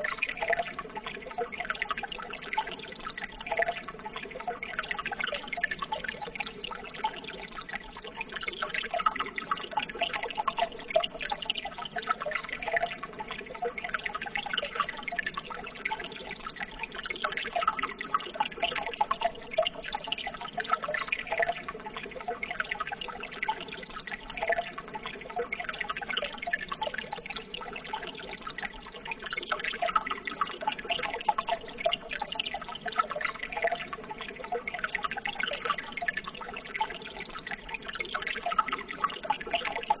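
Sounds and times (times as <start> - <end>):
running water trickling: 0.0 - 40.0.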